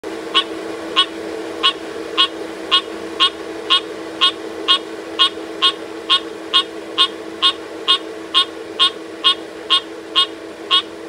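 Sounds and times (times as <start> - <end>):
steady low hum: 0.0 - 11.0
tree frog calling: 0.3 - 11.0.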